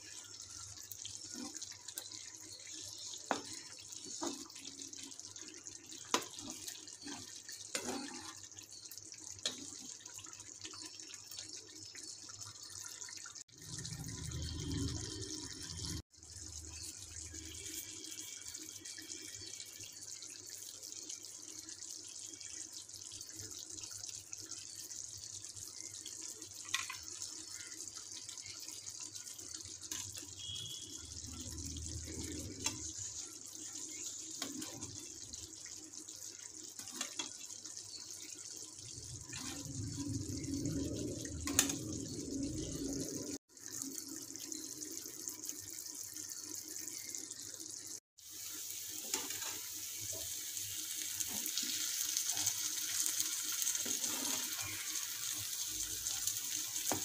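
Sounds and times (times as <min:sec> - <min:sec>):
curry sizzling in pan: 0:00.0 - 0:57.0.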